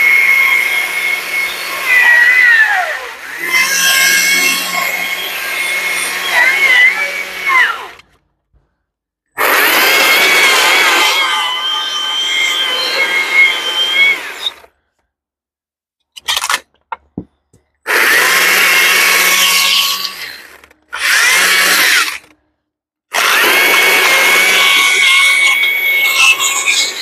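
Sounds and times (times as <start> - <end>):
chainsaw cutting wood: 0.0 - 8.0, 9.4 - 14.7, 17.9 - 22.3, 23.1 - 27.0.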